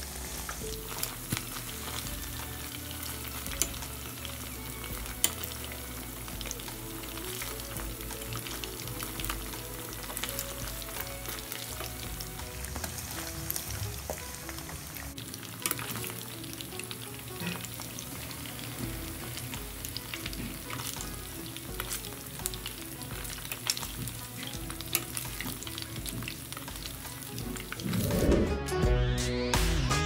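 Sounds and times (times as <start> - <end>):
food sizzling in hot oil: 0.0 - 28.4.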